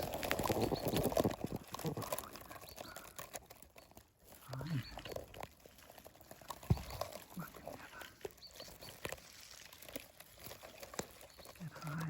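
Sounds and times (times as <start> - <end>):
twigs and leaves rustling: 0.0 - 12.0.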